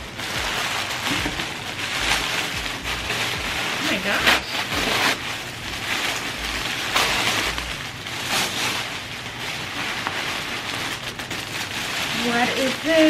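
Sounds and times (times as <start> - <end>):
gift packaging crinkling: 0.0 - 13.0.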